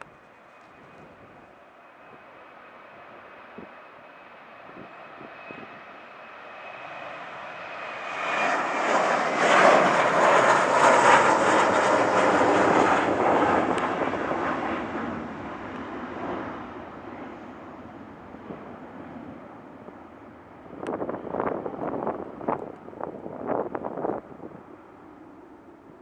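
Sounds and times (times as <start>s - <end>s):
jet engine passing by: 0.0s - 26.0s.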